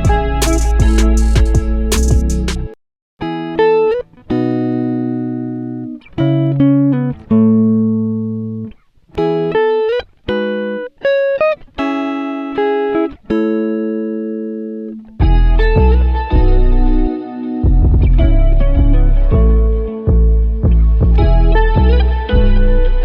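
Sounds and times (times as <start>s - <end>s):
slow guitar music: 0.0s - 23.0s.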